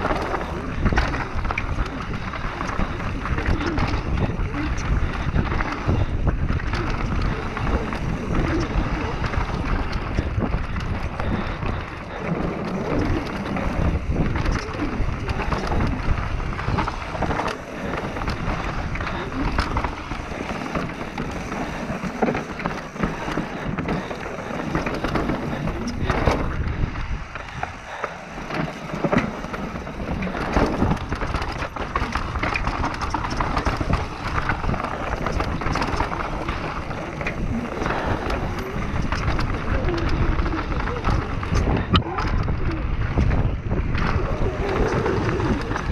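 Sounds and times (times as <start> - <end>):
bike tyre roar and rattle: 0.0 - 45.9.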